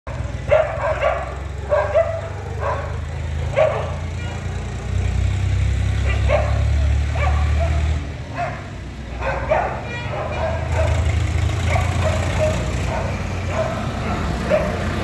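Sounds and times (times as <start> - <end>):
dogs barking: 0.1 - 5.3, 5.9 - 15.0.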